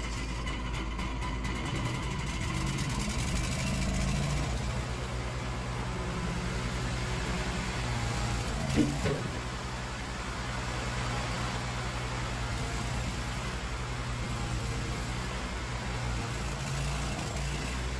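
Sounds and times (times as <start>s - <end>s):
engine running with low pulsing beat: 0.0s - 17.9s.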